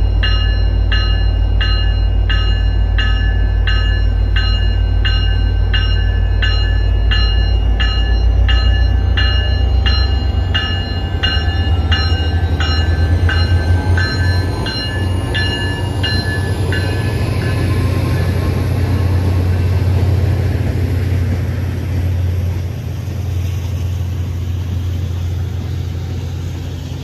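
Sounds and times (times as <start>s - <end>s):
locomotive bell ringing: 0.0s - 23.0s.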